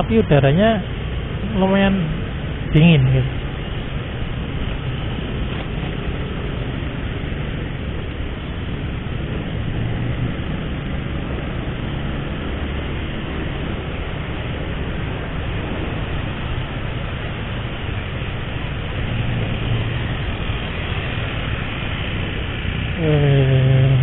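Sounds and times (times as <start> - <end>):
motorcycle engine hum: 0.0 - 24.0
wind and road noise: 0.0 - 24.0.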